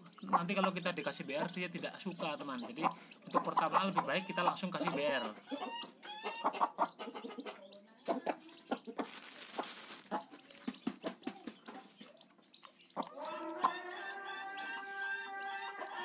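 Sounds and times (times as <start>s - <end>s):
chicks peeping: 0.0s - 16.0s
hen clucking: 0.0s - 16.0s.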